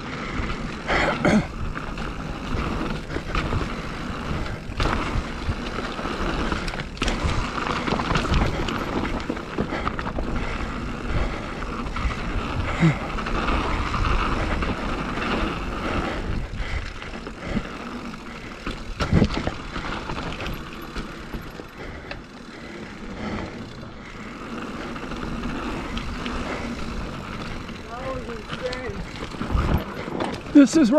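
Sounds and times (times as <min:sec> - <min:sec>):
bike tyres on dirt trail: 0:00.0 - 0:30.9
bike knocks and rattles over bumps: 0:00.2 - 0:30.9.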